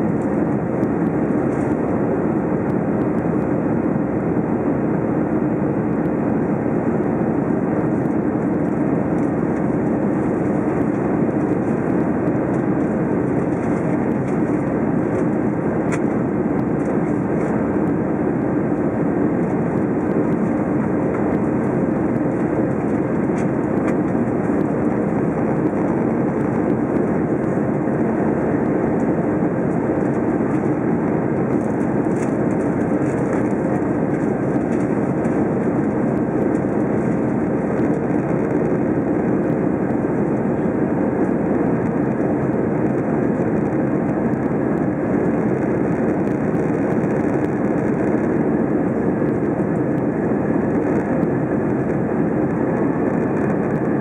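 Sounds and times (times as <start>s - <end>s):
aircraft engines droning: 0.0s - 54.0s
faint steady hum: 0.0s - 54.0s.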